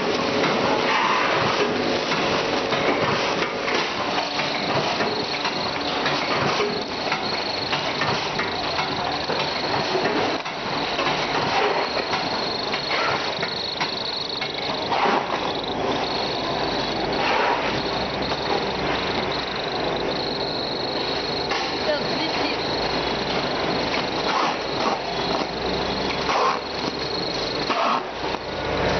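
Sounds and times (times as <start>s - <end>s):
continuous creaking: 0.5s - 28.6s.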